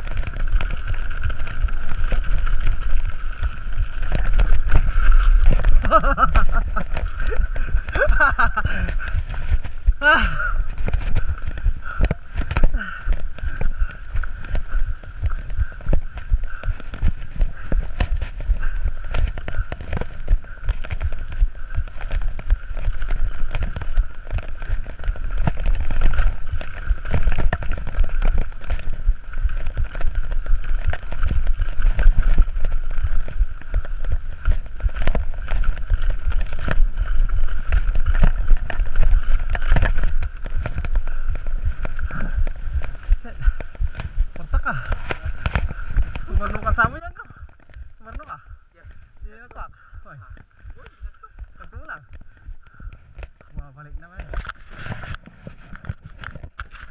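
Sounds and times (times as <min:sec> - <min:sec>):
constant buzzing tone: 0:00.0 - 0:56.9
mountain bike rattling: 0:00.0 - 0:56.9
wind rumbling on microphone: 0:00.0 - 0:56.9.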